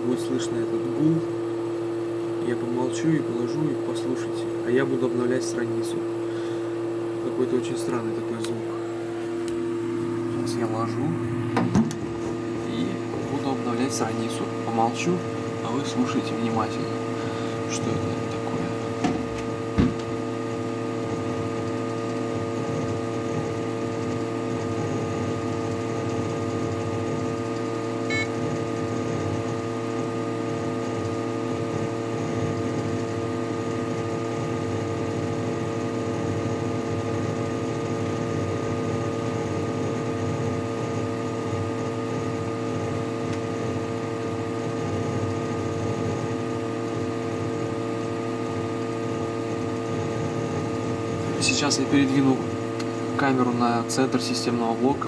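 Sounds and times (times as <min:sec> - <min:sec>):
computer humming: 0:00.0 - 0:55.0.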